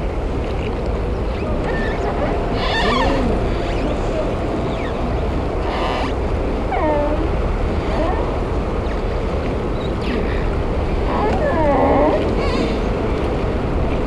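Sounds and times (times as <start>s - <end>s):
wind and sea rumble: 0.0s - 14.0s
faint calling voices: 1.2s - 9.0s, 9.8s - 13.3s.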